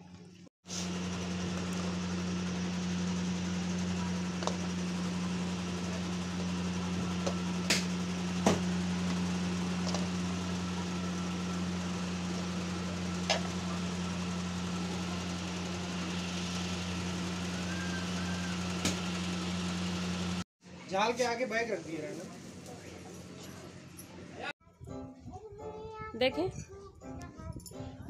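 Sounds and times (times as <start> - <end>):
low machine hum: 0.0 - 24.5.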